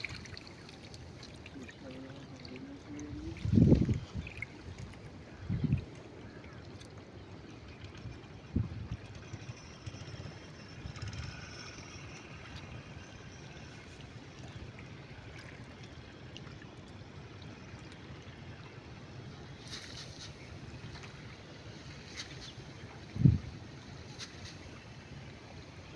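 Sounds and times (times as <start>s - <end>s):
river water trickling: 0.0s - 25.9s.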